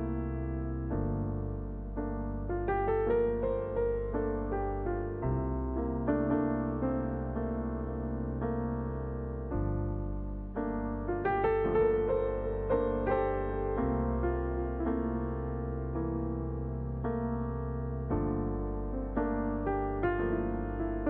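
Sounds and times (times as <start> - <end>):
soft slow piano music: 0.0 - 21.0.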